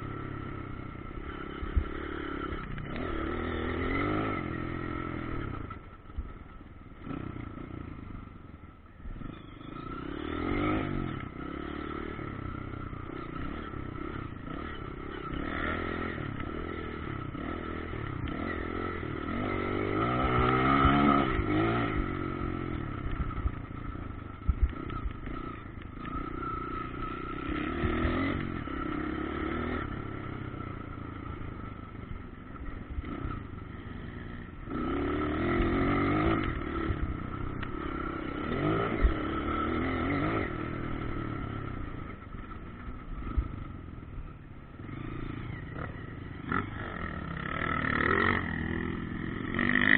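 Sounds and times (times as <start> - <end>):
motocross bike engines revving: 0.0 - 5.9, 9.0 - 49.9.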